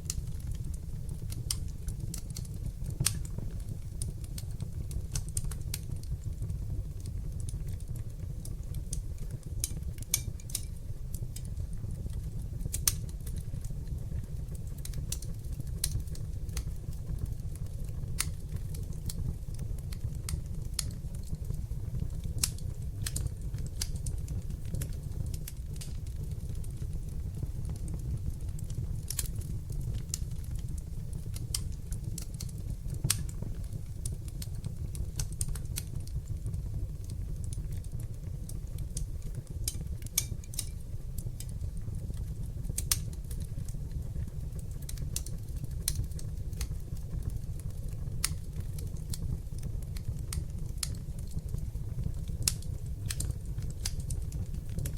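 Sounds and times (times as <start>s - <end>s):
fireplace fire crackling: 0.0s - 54.9s.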